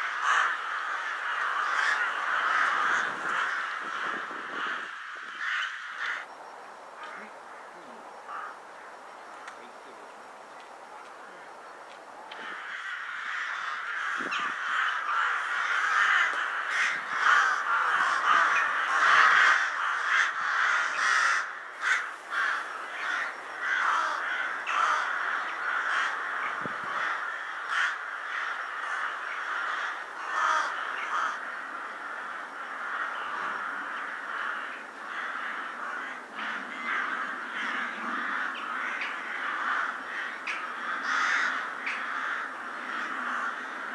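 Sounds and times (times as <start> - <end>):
rooks cawing: 0.0 - 6.4, 7.0 - 9.2, 12.3 - 43.9.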